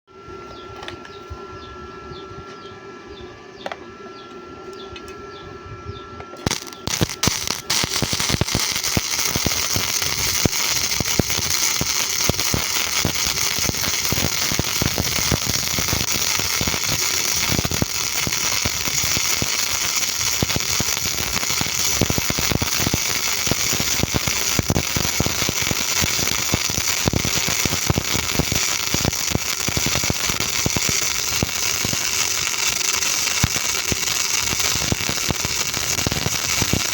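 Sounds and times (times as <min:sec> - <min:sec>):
steady hum: 0:00.1 - 0:36.9
welding arc crackling: 0:06.4 - 0:36.9.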